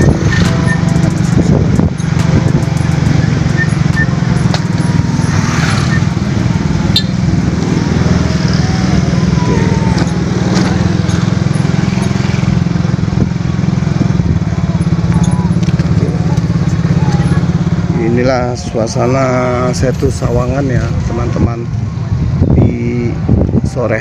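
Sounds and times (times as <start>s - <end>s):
small motorcycle engine running: 0.0s - 19.7s.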